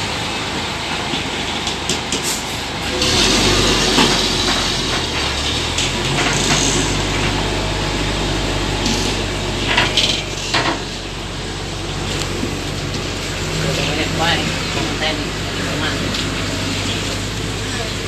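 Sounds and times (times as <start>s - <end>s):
truck engine humming: 0.0s - 18.0s.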